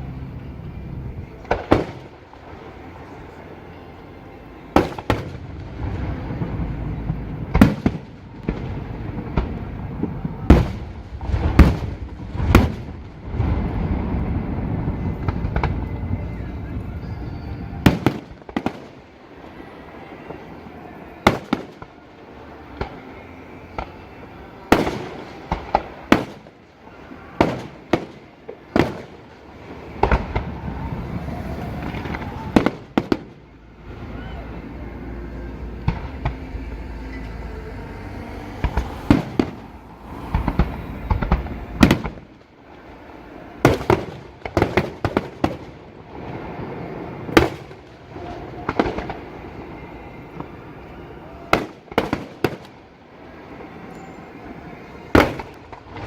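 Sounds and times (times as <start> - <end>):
fireworks bursting with bangs: 0.0 - 56.0.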